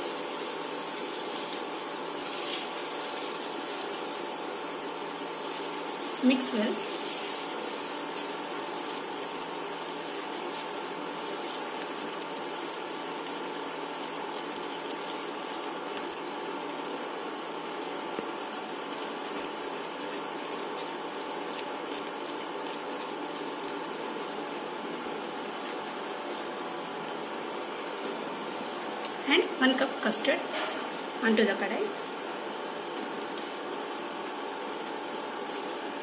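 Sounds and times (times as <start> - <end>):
cooktop hiss: 0.0 - 36.0.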